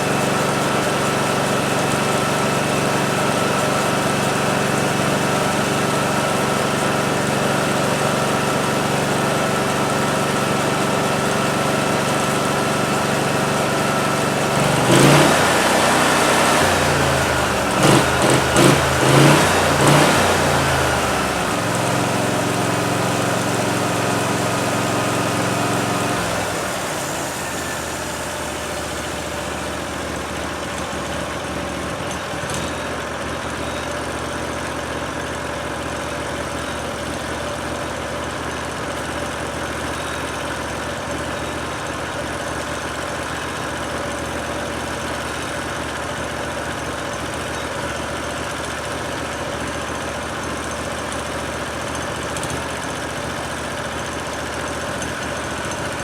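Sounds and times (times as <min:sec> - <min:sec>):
sawmill gasoline engine running: 0:00.0 - 0:56.0.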